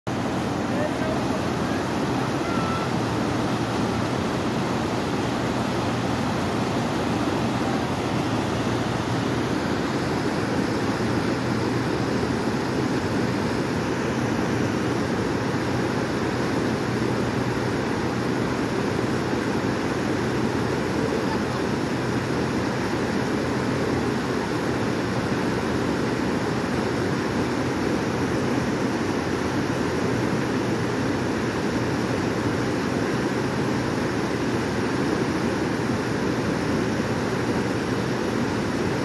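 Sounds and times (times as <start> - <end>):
floodwater rushing over rocks: 0.1 - 39.0.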